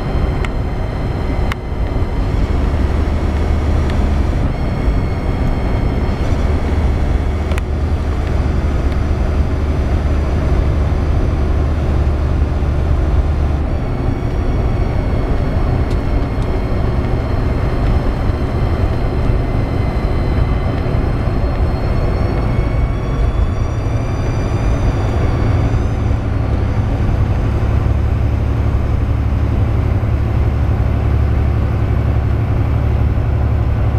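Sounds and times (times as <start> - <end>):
diesel engine drone: 0.0 - 33.9
high-pitched turbo whine: 0.0 - 33.9.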